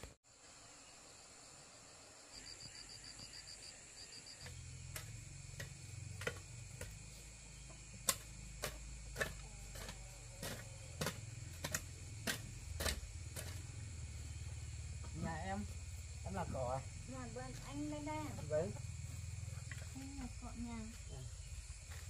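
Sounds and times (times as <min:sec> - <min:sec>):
insect-like chirp: 0:00.0 - 0:22.0.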